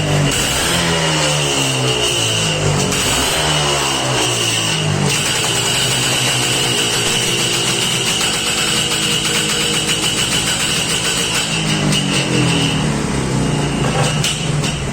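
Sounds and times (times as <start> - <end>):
engine running: 0.0 - 14.9.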